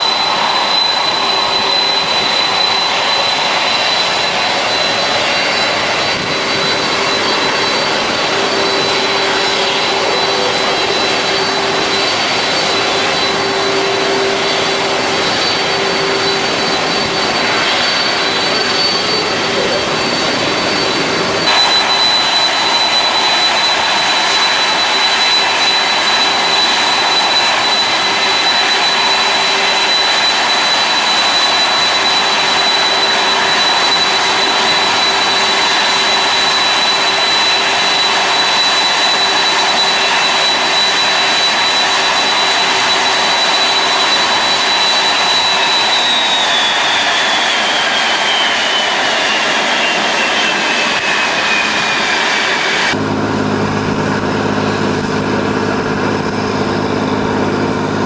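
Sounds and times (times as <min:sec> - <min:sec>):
jet engines with turbine whine: 0:00.0 - 0:58.0.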